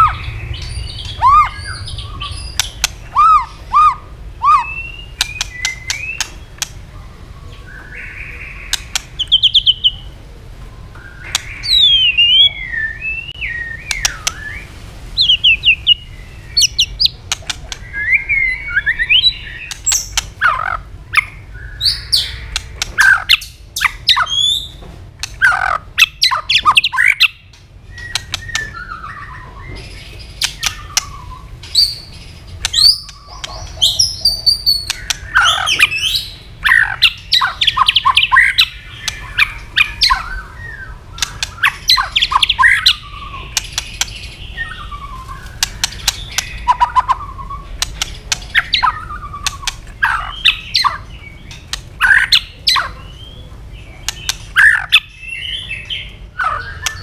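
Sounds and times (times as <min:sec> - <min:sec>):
bird sharp clicking calls: 0:00.0 - 0:06.8, 0:07.8 - 0:10.0, 0:11.2 - 0:12.6, 0:13.8 - 0:14.6, 0:16.6 - 0:57.0
bird singing whistles and trills: 0:00.0 - 0:10.1, 0:10.8 - 0:24.8, 0:25.4 - 0:57.0.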